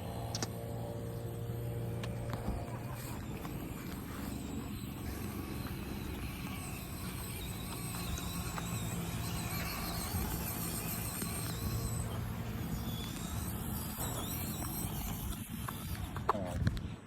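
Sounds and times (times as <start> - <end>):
small electric motors whining: 0.0 - 17.0.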